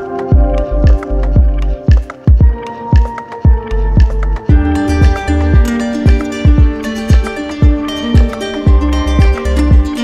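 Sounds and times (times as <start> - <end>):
background music with kick drum: 0.0 - 10.0.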